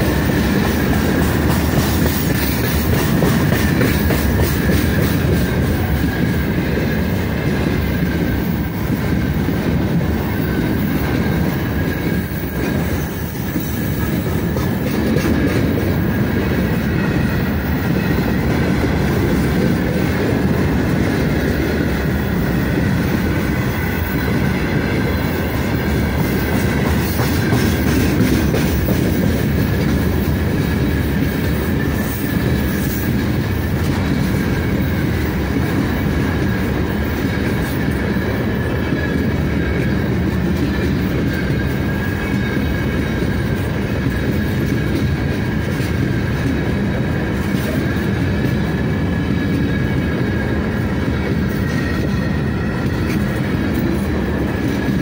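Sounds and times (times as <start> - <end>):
steel wheels rumbling: 0.0 - 55.0.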